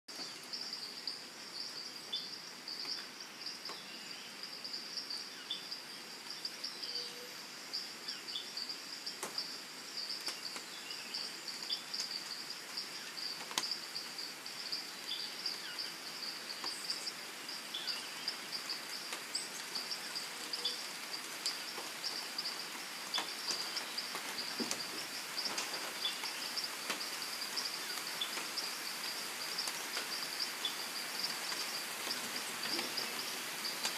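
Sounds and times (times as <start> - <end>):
high-pitched insect chorus: 0.1 - 33.9
soft even hiss: 0.1 - 33.9.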